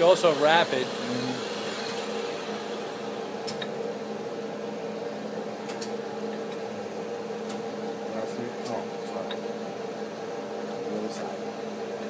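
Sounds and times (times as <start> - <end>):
lathe electric hum: 0.0 - 12.0.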